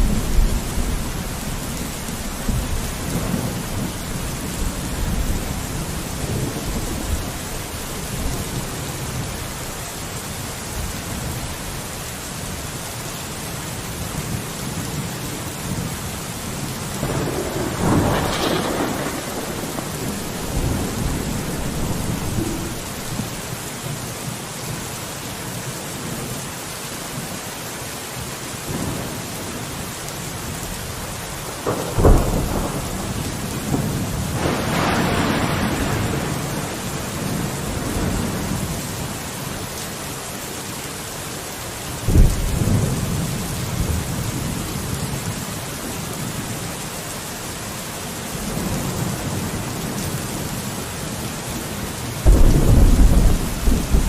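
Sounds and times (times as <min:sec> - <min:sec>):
rain on window: 0:00.0 - 0:26.4, 0:28.6 - 0:54.0.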